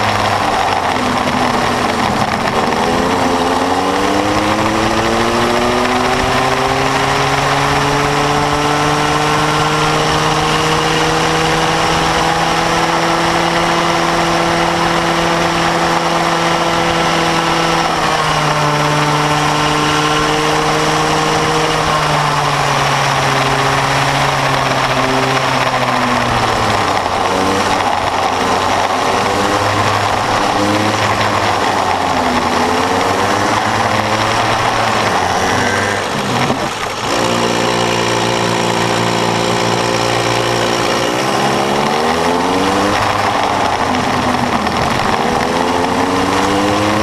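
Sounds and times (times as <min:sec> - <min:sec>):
go-kart two-stroke engine racing: 0:00.0 - 0:47.0.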